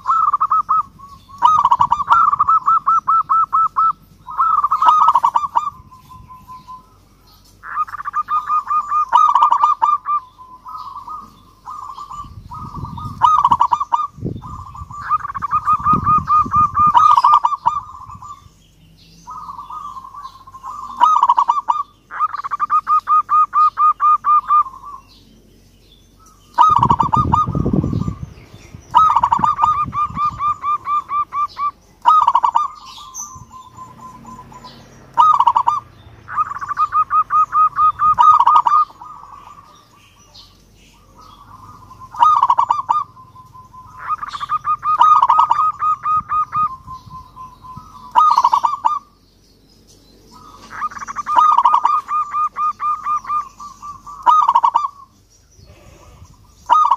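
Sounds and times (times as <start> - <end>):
dove cooing: 0.0 - 18.5, 19.2 - 25.2, 26.2 - 49.2, 50.3 - 56.9.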